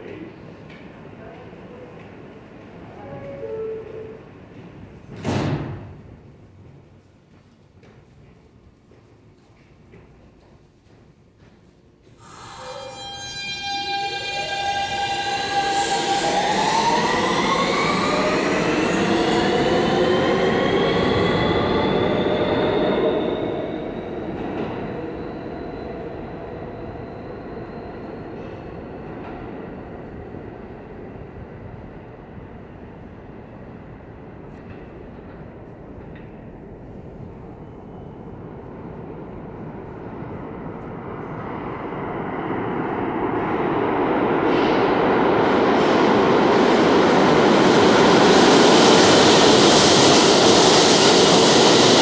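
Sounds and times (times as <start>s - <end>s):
subway train motors whining: 0.0s - 52.0s.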